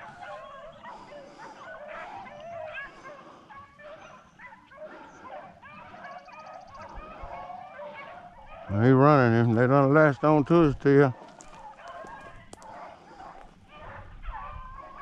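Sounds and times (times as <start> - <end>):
hounds baying and yelping: 0.0 - 15.0.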